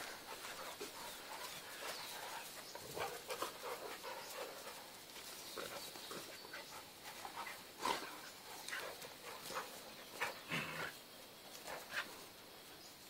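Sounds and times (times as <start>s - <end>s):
dogs scuffling and mouth noises: 0.0s - 13.0s.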